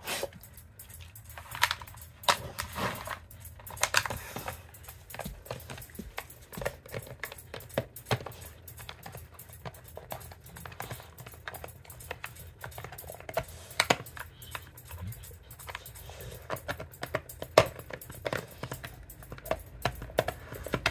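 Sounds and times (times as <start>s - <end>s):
plastic puzzle toy clattering: 1.4s - 20.9s.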